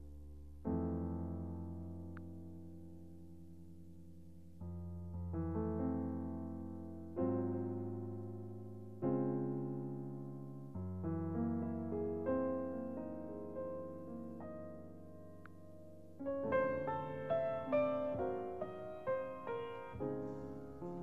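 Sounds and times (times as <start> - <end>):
slow jazz piano: 0.0 - 21.0.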